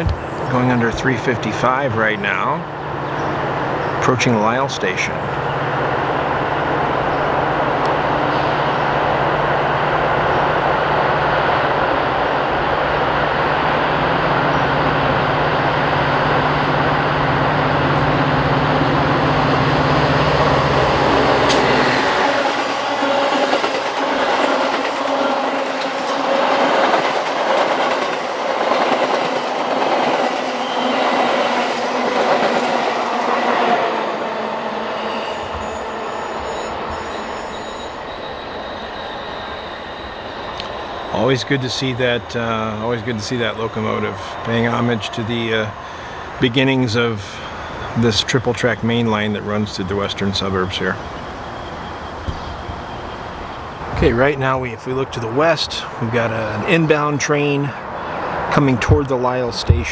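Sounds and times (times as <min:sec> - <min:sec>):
diesel locomotive engine droning: 0:00.0 - 0:59.9.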